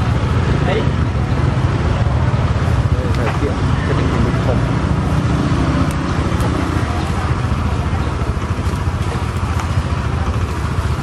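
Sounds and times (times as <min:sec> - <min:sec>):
motorbike engines rumbling: 0:00.0 - 0:11.0.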